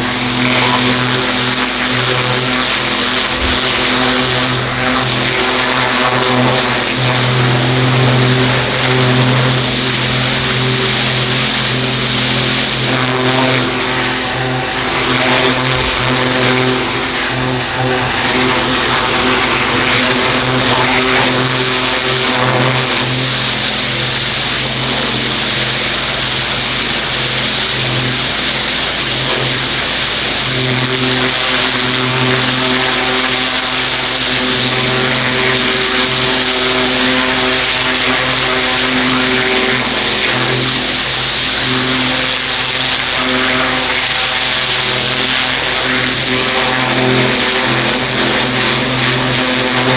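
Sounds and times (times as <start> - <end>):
pressure washer engine running: 0.0 - 49.9
water jet spraying on paving: 0.0 - 49.9.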